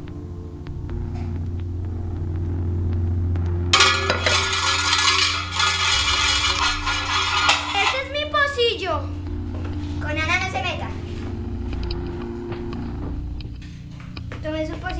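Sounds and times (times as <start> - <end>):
low droning hum: 0.0 - 14.9.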